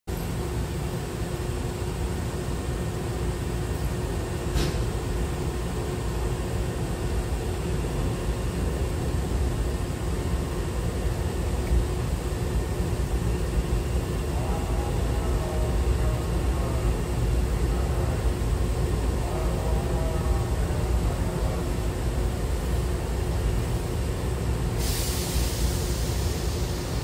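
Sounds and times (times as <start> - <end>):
train humming at standstill: 0.1 - 27.0.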